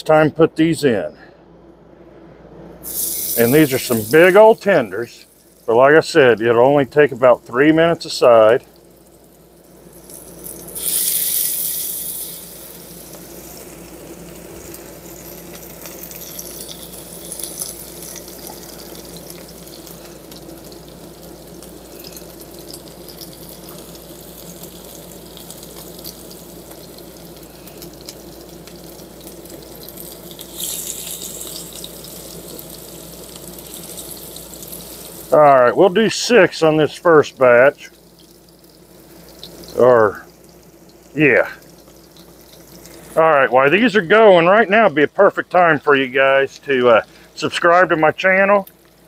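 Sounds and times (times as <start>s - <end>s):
surge of sizzle: 2.7s - 49.0s
chicken sizzling in hot oil: 2.8s - 49.0s.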